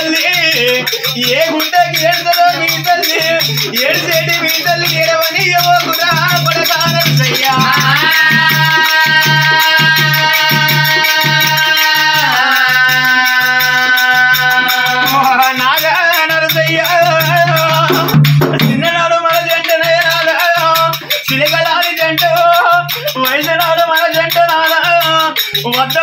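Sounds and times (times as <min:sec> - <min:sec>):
person singing a lament: 0:00.0 - 0:26.0
rattling jingle of hand percussion: 0:00.0 - 0:26.0
steady drumbeat: 0:00.0 - 0:26.0.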